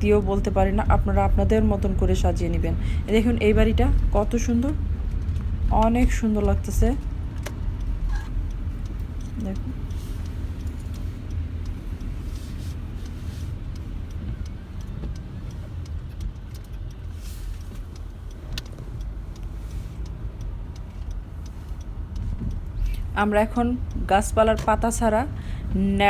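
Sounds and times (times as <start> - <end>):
car engine and tyre rumble: 0.0 - 26.0
faint ticks: 3.8 - 25.8.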